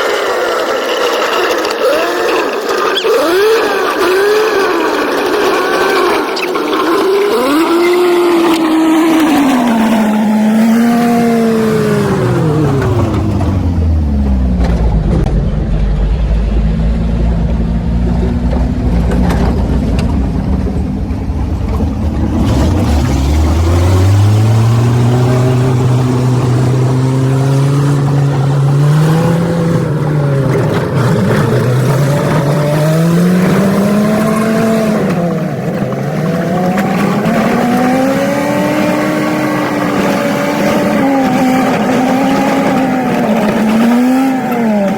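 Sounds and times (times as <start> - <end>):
old truck engine revving: 0.0 - 44.9.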